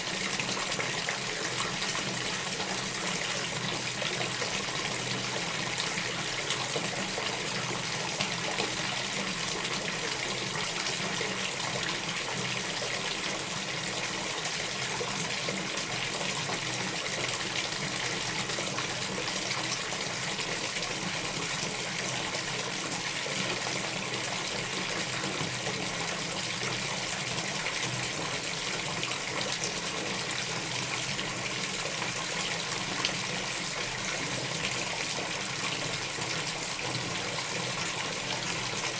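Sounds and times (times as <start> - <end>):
tap water running into bathtub: 0.0 - 38.9.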